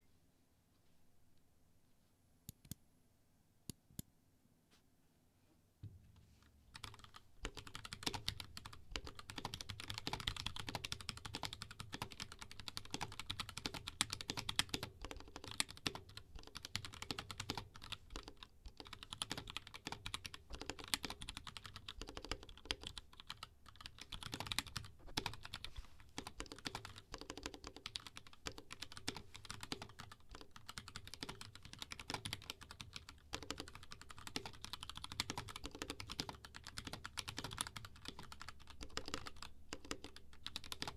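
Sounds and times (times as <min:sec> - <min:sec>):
fast mechanical keyboard typing: 0:06.8 - 0:40.9.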